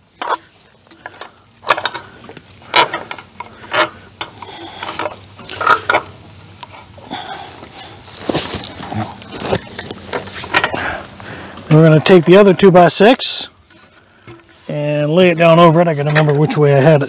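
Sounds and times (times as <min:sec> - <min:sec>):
rustling leaves: 0:00.0 - 0:17.0.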